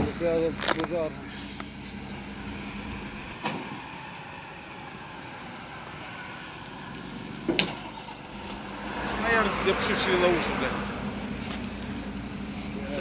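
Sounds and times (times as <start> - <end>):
fire rushing: 0.0 - 13.0.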